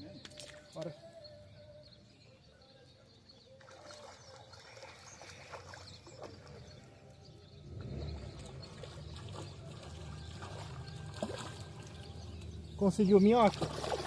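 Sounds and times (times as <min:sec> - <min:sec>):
distant bird chirps: 0:00.0 - 0:14.0.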